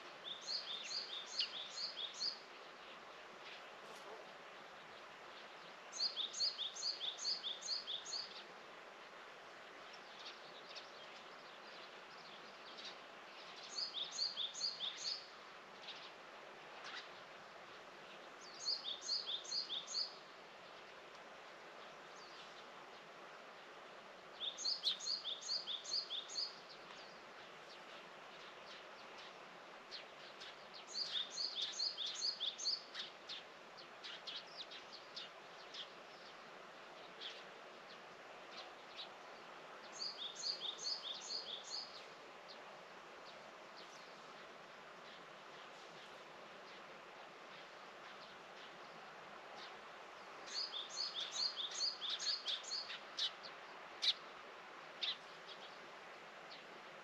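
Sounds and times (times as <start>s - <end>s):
songbird singing: 0.0s - 8.6s, 9.8s - 17.4s, 18.0s - 23.1s, 24.3s - 56.7s
faint outdoor hiss: 0.0s - 57.0s.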